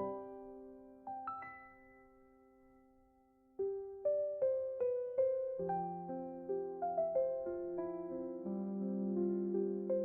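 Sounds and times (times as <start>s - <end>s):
slow soft piano music: 0.0s - 10.0s.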